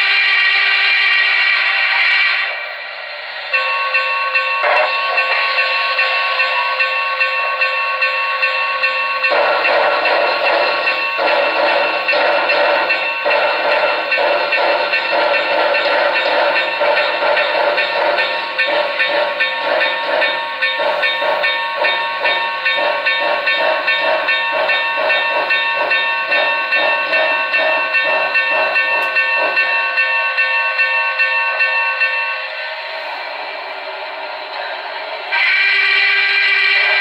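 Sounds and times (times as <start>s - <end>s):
steam locomotive exhaust chuffs: 0.0s - 37.0s.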